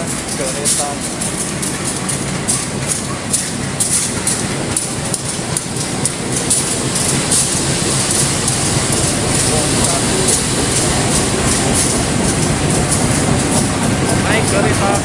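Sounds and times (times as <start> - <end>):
diesel locomotive engine rumbling: 0.0 - 15.0
wheels clacking over rail joints: 0.0 - 15.0.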